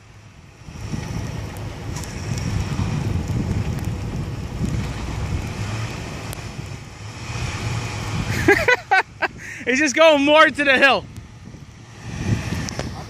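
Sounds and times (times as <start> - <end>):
wheels spinning in snow: 0.0 - 9.6, 11.2 - 13.0
wind noise on microphone: 0.0 - 9.7, 10.3 - 13.0
car engine running under load: 0.0 - 13.0.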